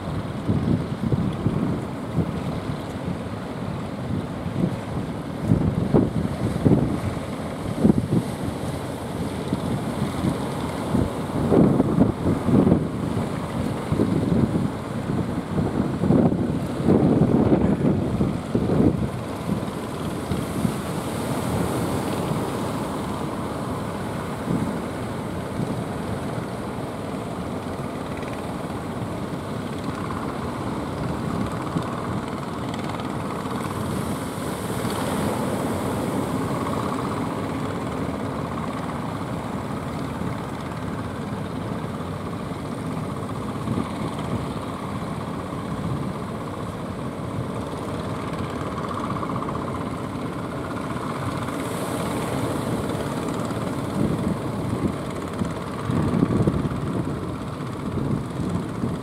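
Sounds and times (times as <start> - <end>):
boat engines droning: 0.0 - 59.0
waves washing: 0.0 - 59.0
wind: 0.0 - 59.0.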